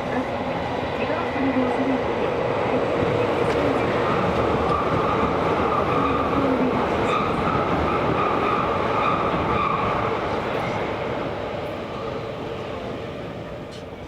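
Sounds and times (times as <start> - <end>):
subway wheels rumbling on rail: 0.0 - 14.0.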